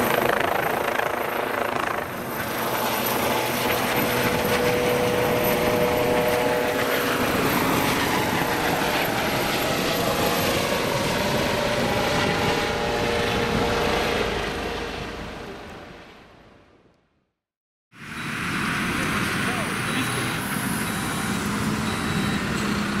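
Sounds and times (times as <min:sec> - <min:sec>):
helicopter rotor chop: 0:00.0 - 0:16.0, 0:18.1 - 0:23.0
turbine whine: 0:00.0 - 0:16.7, 0:18.0 - 0:23.0.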